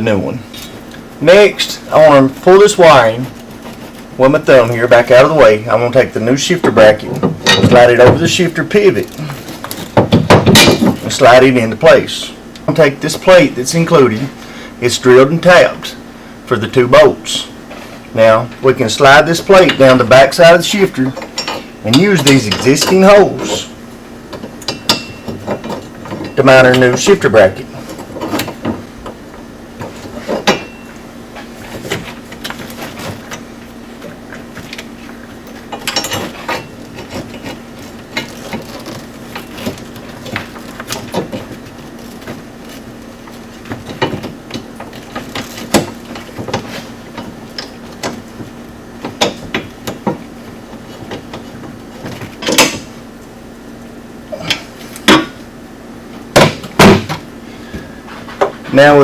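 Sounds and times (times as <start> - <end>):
hand tools and metal parts clattering: 0.0 - 14.5, 16.8 - 53.0, 54.3 - 55.5, 56.3 - 59.0
steady low hum: 0.0 - 59.0.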